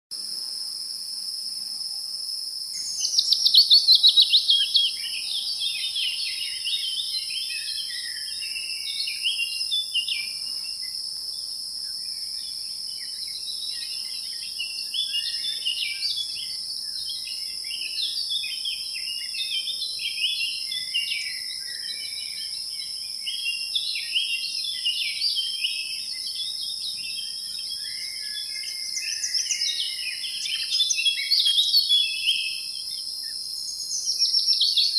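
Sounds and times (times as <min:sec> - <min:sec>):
high-pitched insect drone: 0:00.2 - 0:34.9
small birds chirping: 0:02.8 - 0:34.9.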